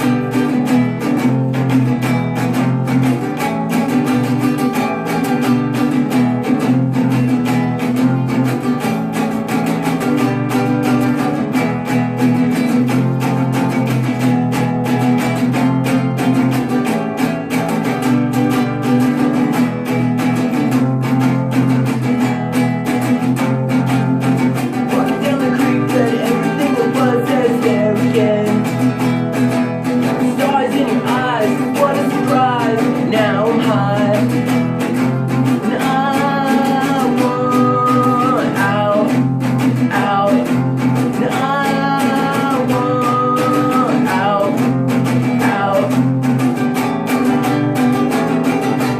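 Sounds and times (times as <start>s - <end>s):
person singing: 0.0s - 47.4s
strummed acoustic guitar: 0.0s - 48.9s.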